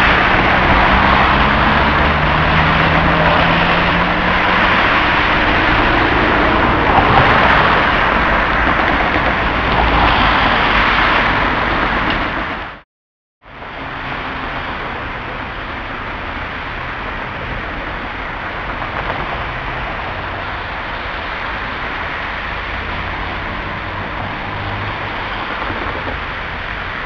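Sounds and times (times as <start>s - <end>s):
street traffic passing cars: 0.0s - 12.8s, 13.4s - 27.0s.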